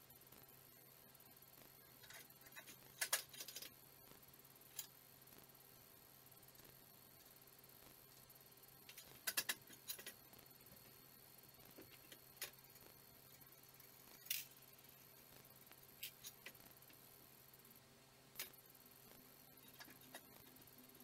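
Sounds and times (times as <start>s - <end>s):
faint room hiss: 0.0s - 21.0s.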